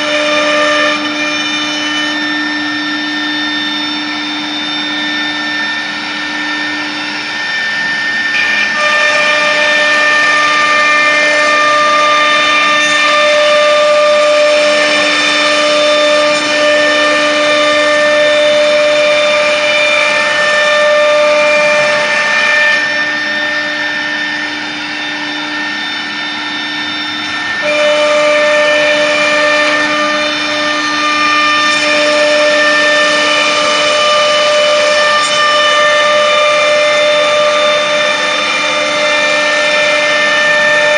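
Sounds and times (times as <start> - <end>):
router machine whine: 0.0 - 40.9.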